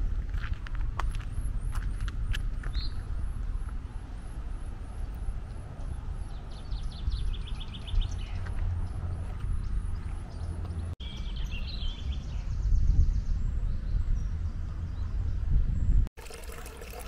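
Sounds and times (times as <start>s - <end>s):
songbirds singing: 1.6s - 16.0s.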